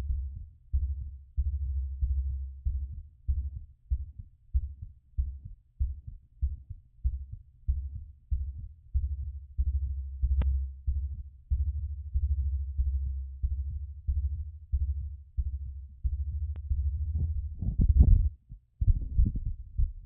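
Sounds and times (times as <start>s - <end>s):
heartbeat thumps through stethoscope: 0.0s - 20.0s.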